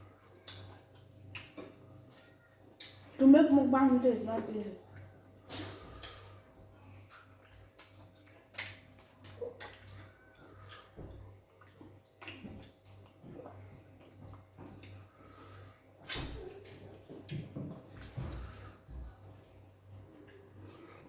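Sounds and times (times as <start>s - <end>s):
wet chewing smacks and squelches: 0.0s - 3.2s, 4.6s - 21.0s
low steady hum: 0.0s - 21.0s.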